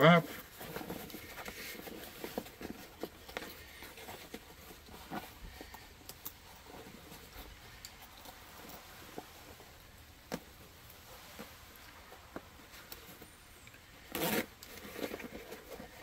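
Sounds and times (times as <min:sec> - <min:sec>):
nylon rucksack rustling: 0:00.0 - 0:16.0.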